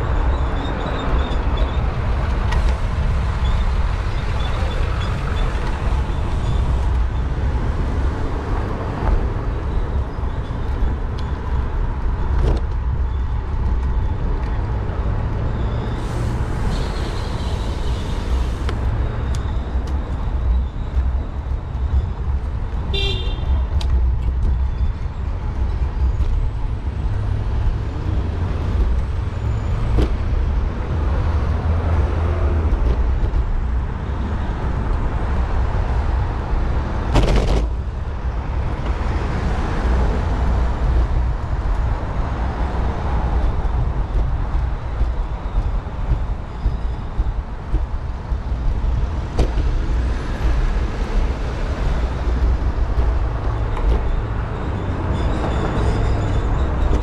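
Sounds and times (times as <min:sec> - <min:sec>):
low wind rumble: 0:00.0 - 0:57.0
traffic passing: 0:00.0 - 0:57.0.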